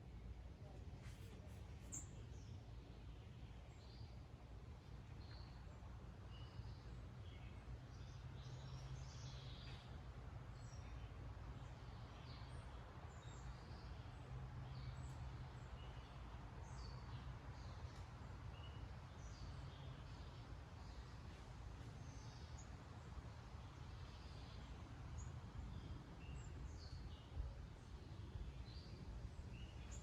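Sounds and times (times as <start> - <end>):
low background hum: 0.0 - 30.0
small birds chirping: 1.0 - 30.0.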